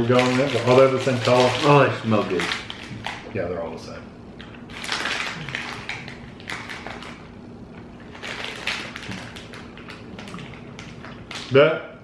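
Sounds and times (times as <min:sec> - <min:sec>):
plastic wrapper crinkling: 0:00.0 - 0:03.3, 0:04.4 - 0:11.6.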